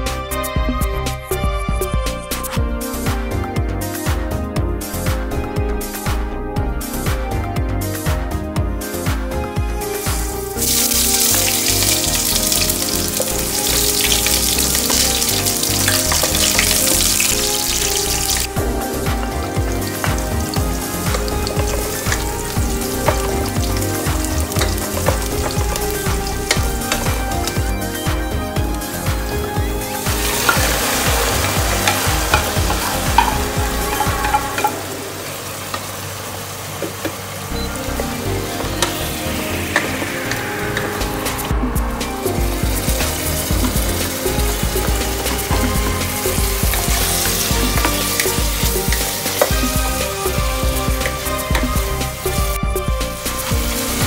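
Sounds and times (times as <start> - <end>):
onions sizzling in hot oil: 9.9 - 41.5, 42.2 - 54.0.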